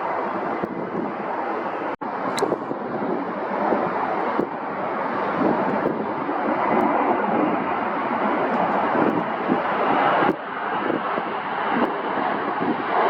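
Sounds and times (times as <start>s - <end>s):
jet aircraft rushing: 0.0s - 13.0s
wind on the microphone: 0.0s - 13.0s.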